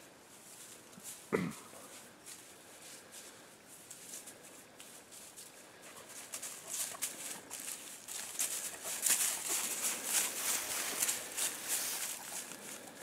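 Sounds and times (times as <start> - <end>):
footsteps crunching through dry grass: 0.0 - 13.0.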